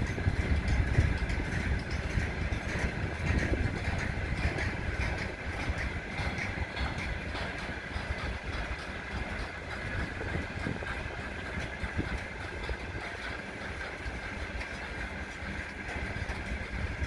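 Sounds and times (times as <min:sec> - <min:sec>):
freight train wagons rolling: 0:00.0 - 0:17.0
wheels clicking on rails: 0:00.0 - 0:17.0.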